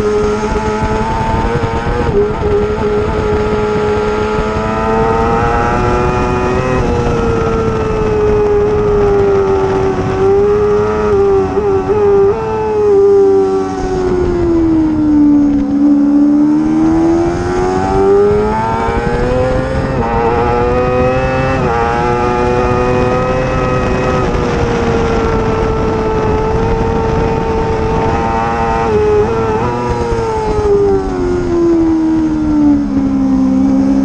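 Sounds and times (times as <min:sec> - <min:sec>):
racing motorcycle engine revving: 0:00.0 - 0:34.0.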